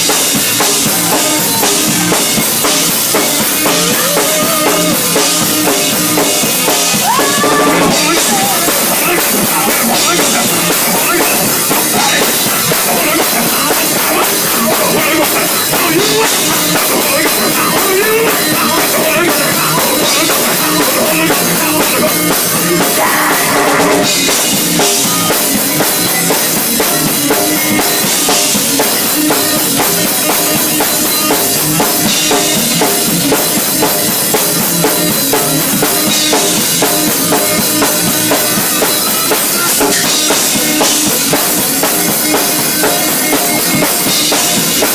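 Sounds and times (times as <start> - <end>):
drum kit beat: 0.0 - 44.9
keyboard: 0.0 - 44.9.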